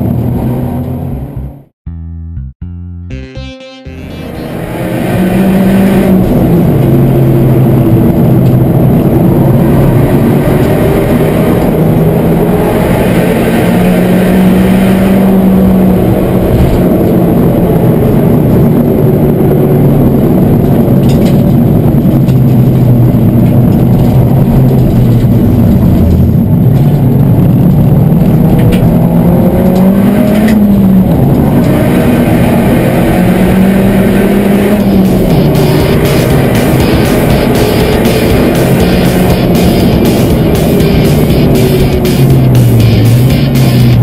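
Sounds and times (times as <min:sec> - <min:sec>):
race car engine revving: 0:04.0 - 0:44.0.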